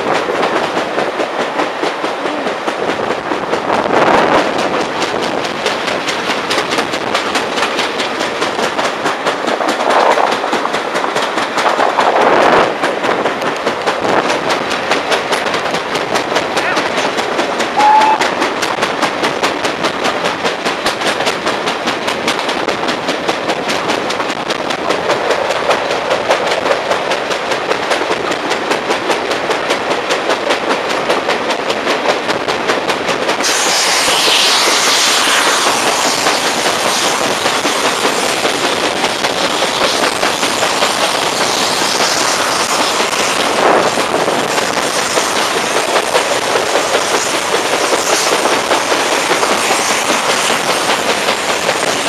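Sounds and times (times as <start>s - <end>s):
train wheels knocking on track: 0.0s - 52.0s.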